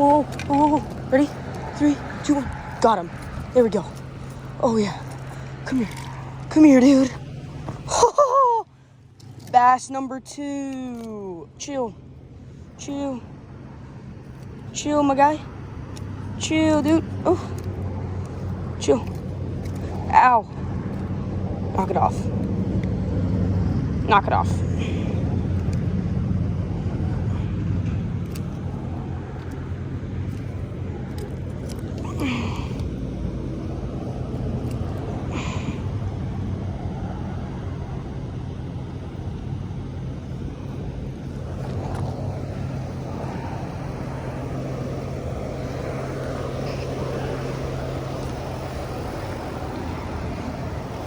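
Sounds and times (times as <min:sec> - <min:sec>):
low motor drone: 0:00.0 - 0:51.0
steady low rumble with hum: 0:00.0 - 0:51.0.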